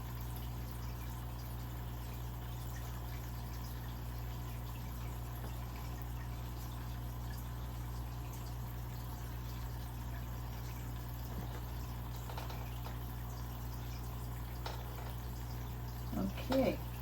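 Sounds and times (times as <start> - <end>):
aquarium water bubbling: 0.0 - 17.0.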